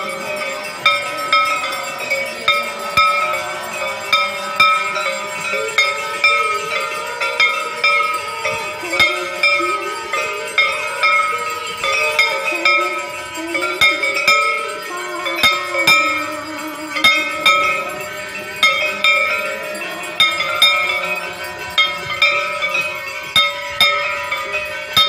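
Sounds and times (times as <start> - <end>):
slow devotional singing: 0.0 - 25.0
temple bells ringing: 0.0 - 25.0.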